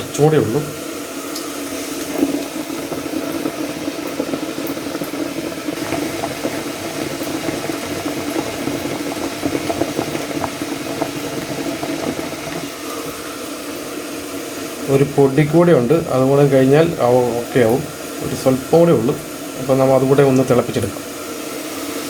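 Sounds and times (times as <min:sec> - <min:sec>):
water boiling in a pot: 0:00.0 - 0:22.0.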